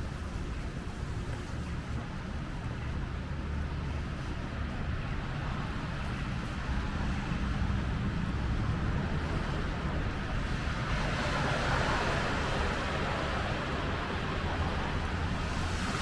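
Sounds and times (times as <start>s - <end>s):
hiss of passing traffic: 0.0s - 16.0s
rumble of traffic: 0.0s - 16.0s.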